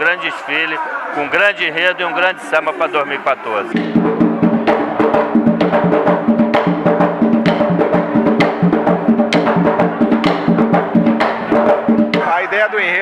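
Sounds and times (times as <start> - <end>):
samba drums playing: 2.4 - 13.0.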